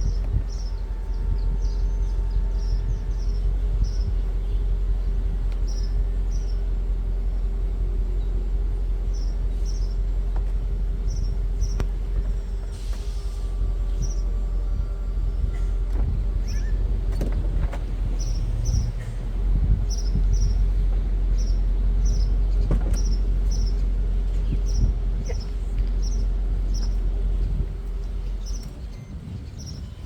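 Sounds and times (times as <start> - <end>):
hydraulic pump humming and whining: 0.0 - 30.0.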